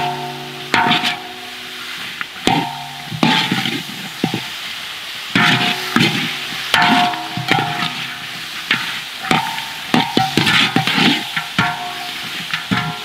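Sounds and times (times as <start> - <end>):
metal spatula scraping a wok: 0.0 - 4.6, 5.3 - 13.0.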